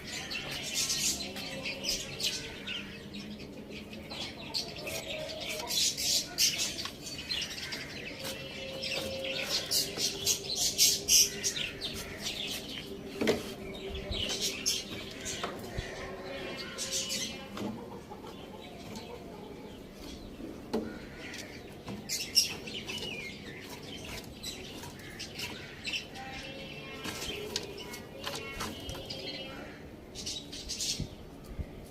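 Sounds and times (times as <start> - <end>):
birds chirping: 0.0 - 31.9.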